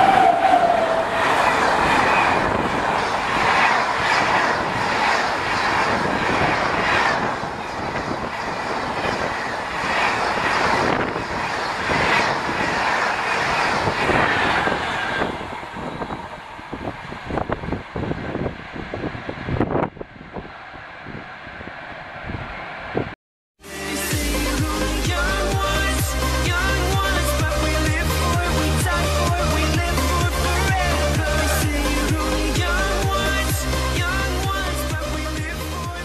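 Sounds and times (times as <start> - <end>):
train coaches rushing past: 0.0 - 23.2, 23.8 - 36.0.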